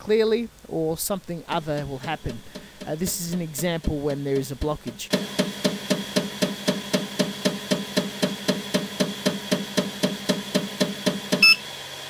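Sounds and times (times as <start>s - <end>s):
printer extruder clunking: 1.5s - 11.6s.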